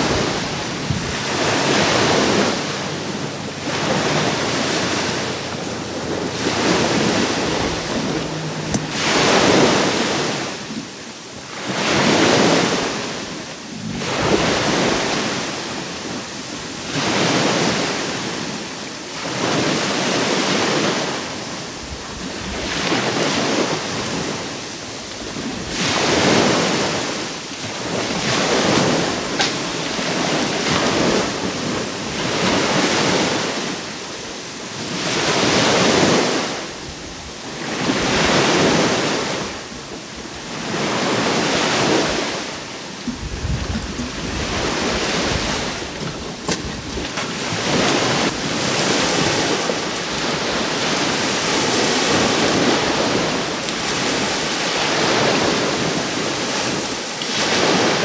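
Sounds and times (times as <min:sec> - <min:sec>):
sea waves breaking on shore: 0:00.0 - 0:58.0.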